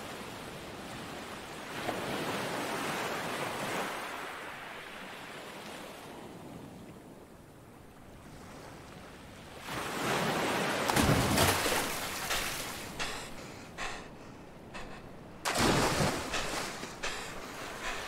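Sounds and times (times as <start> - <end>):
sea waves splashing: 0.0 - 6.6, 8.1 - 18.0.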